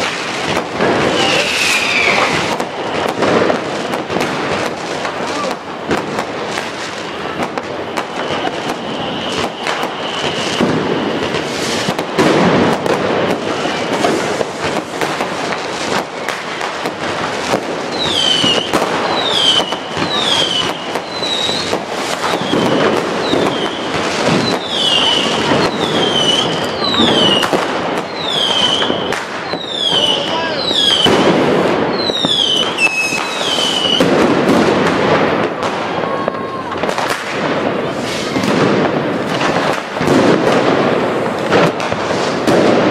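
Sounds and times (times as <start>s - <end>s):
falling firework whistle: 0.0s - 42.9s
firecrackers and rockets banging: 0.0s - 42.9s.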